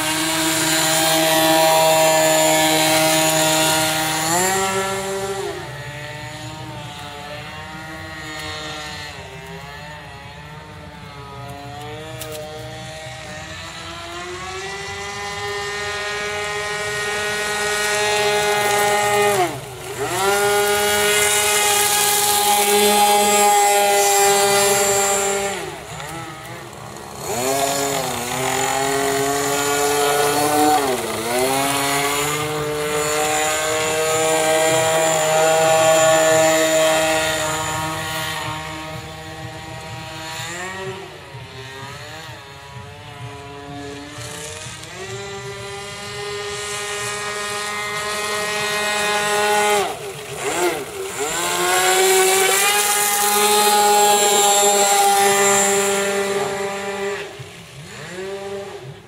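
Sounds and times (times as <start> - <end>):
two-stroke boat engine racing: 0.0 - 59.0.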